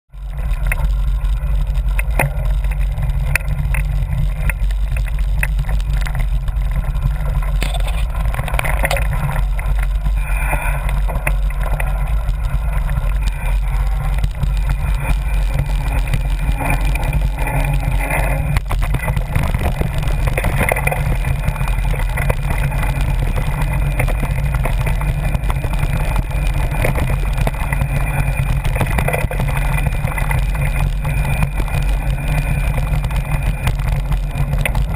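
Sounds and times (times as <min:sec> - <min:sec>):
wind rumble on microphone: 0:00.1 - 0:34.9
bike clicks and rattles: 0:00.2 - 0:34.9.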